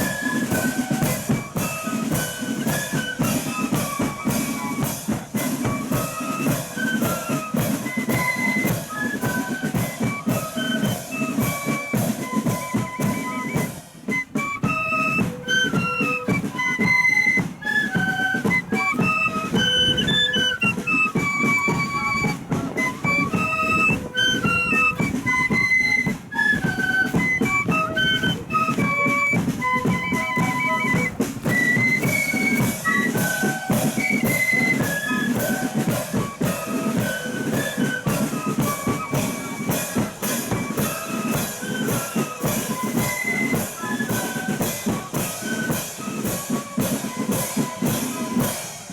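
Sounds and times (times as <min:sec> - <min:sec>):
bass and snare drumming: 0:00.0 - 0:48.9
flutes playing melody: 0:00.0 - 0:48.9.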